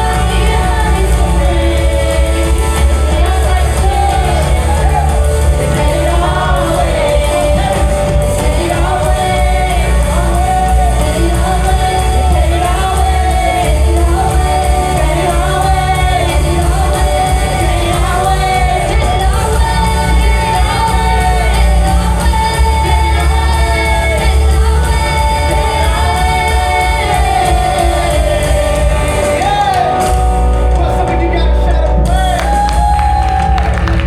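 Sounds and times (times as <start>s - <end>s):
band with heavy bass: 0.0s - 34.0s
people singing worship music: 0.0s - 34.0s.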